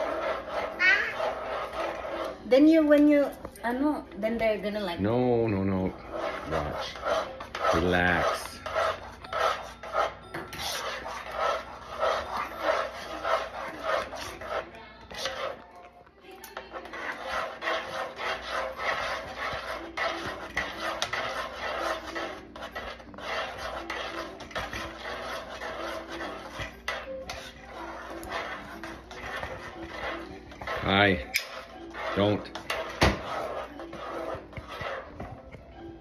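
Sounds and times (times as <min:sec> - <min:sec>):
spoon scraping in a pot: 0:00.0 - 0:36.0.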